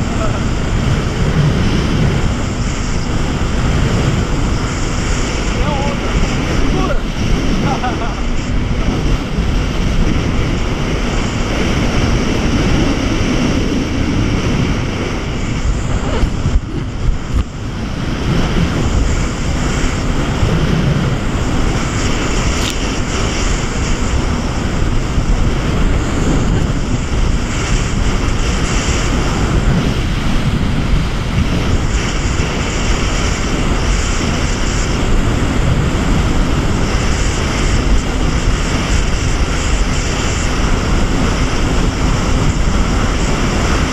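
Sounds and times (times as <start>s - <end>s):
jet ski engine drone: 0.0s - 43.9s
rushing water and spray: 0.0s - 43.9s
wind buffeting microphone: 0.0s - 43.9s.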